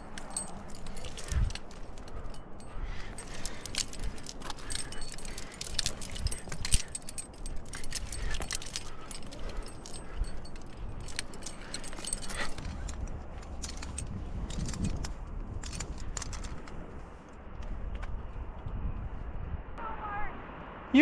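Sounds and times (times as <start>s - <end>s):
carabiners clinking and jangling: 0.0s - 17.4s
steady low rumble: 0.0s - 21.0s.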